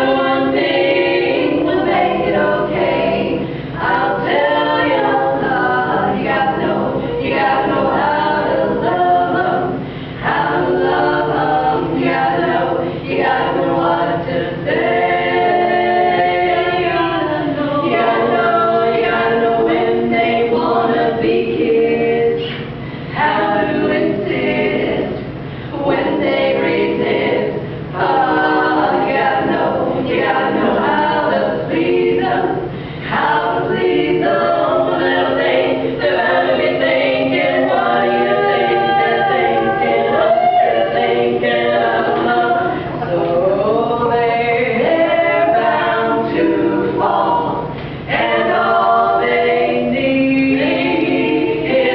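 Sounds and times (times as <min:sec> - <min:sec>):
a cappella group singing: 0:00.0 - 0:51.9.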